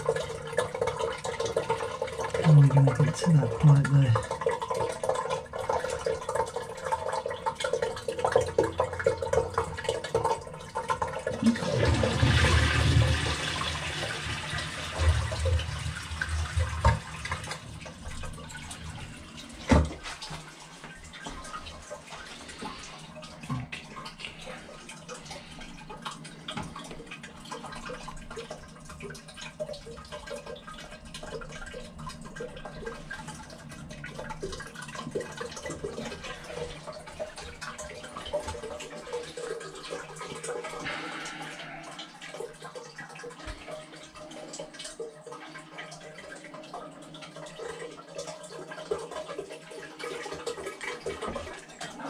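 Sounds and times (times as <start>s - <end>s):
water running in plumbing: 0.0s - 52.0s.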